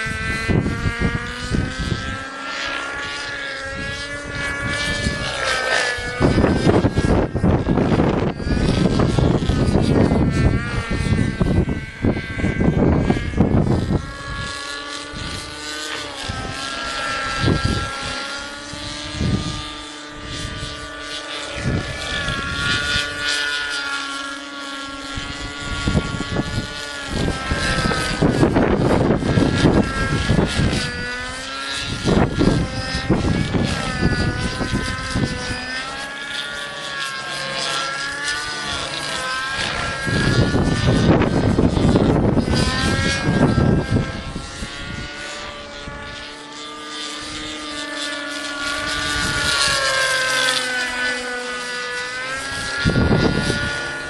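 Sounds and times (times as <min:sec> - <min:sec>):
model helicopter engine whining: 0:00.0 - 0:54.0
wind buffeting microphone: 0:00.0 - 0:54.0.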